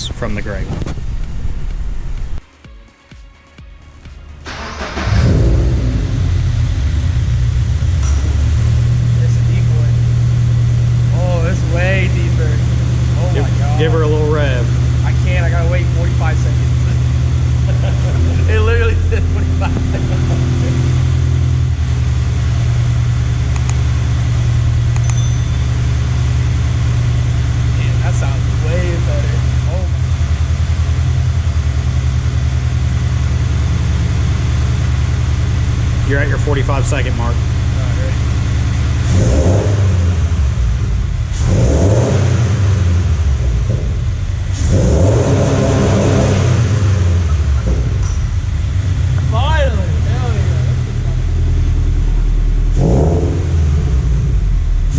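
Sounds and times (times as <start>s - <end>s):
car engine idling: 0.0s - 2.4s, 3.8s - 54.9s.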